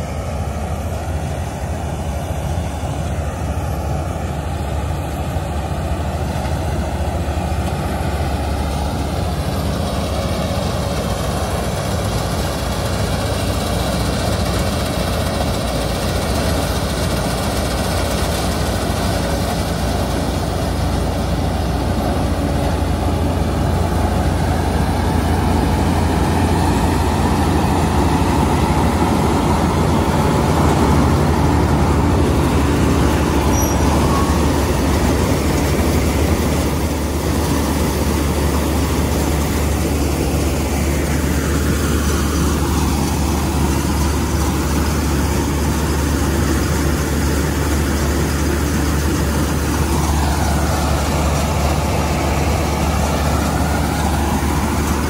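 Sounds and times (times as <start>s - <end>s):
combine harvester engine: 0.0s - 55.0s
tractor engine running: 0.0s - 55.0s.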